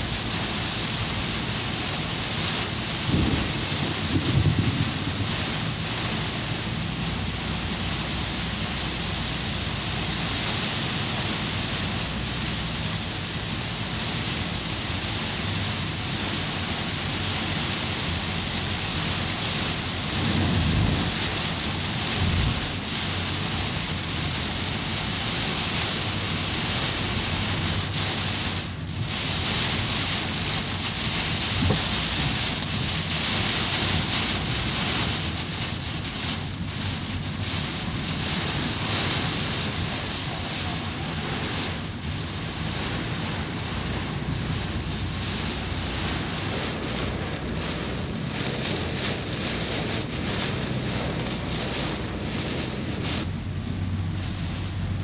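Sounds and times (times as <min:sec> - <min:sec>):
heavy rain on car roof: 0:00.0 - 0:55.0
low rumbles: 0:00.0 - 0:55.0.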